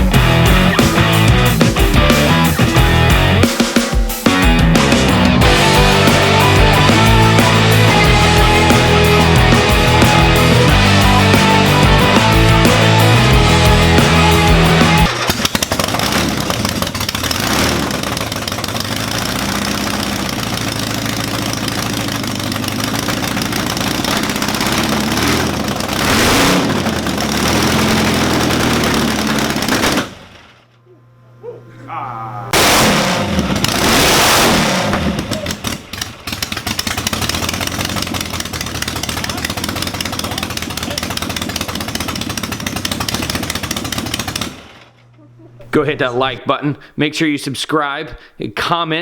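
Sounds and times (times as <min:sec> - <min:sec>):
car engine revving: 0:00.0 - 0:03.4, 0:04.5 - 0:30.5, 0:32.5 - 0:44.7.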